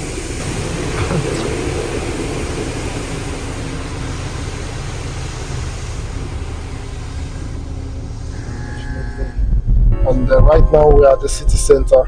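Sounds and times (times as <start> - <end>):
low rumble: 0.1 - 12.0.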